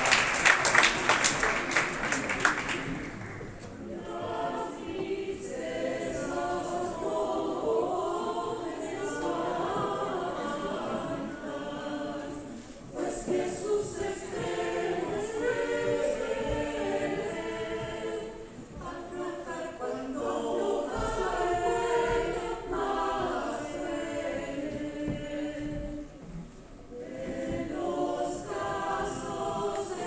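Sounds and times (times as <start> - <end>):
choir singing a cappella: 3.4 - 30.0.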